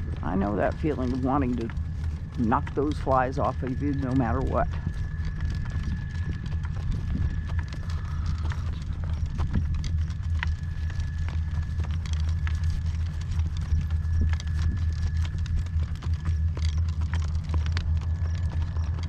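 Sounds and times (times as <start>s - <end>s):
horse hooves clip-clopping: 0.0s - 19.0s
steady low rumble: 0.0s - 19.0s.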